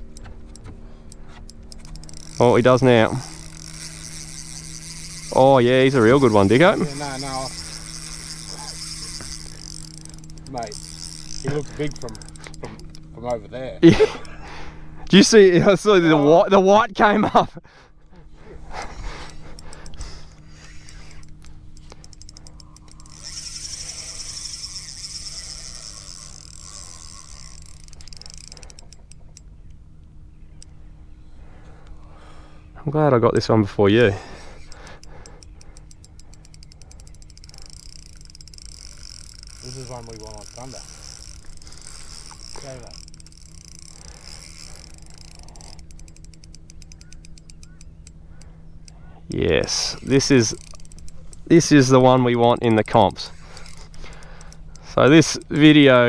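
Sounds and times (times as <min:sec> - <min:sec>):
faint low hum: 0:00.0 - 0:56.0
fishing reel drag ticking and buzzing: 0:00.0 - 0:56.0.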